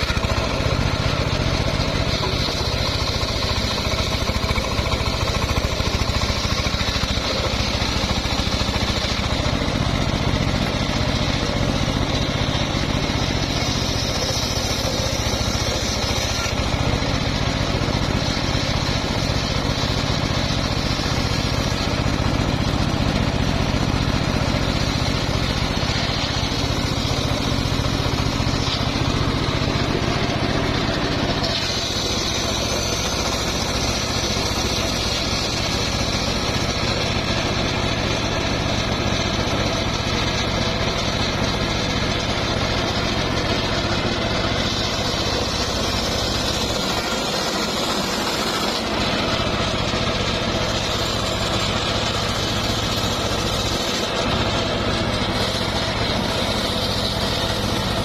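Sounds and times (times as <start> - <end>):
engine-driven circular sawmill running: 0.0 - 58.0.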